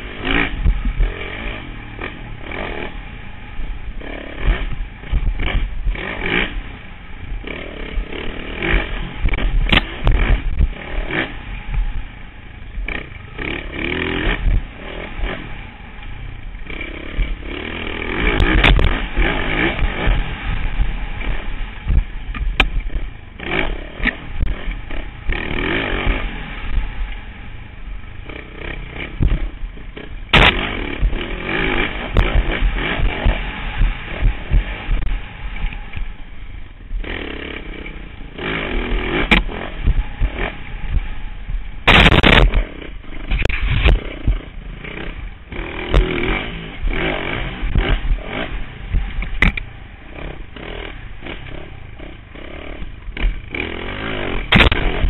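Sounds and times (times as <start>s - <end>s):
bike knocking and rattling: 0.0s - 55.0s
dirt bike engine revving: 0.0s - 55.0s.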